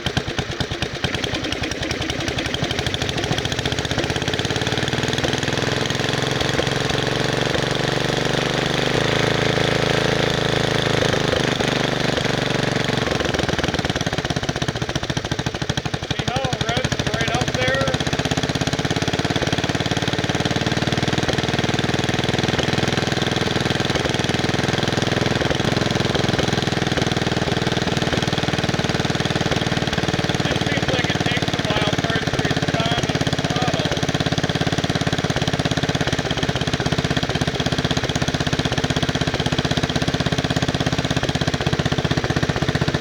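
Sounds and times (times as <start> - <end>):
small engine running steadily: 0.0 - 43.0.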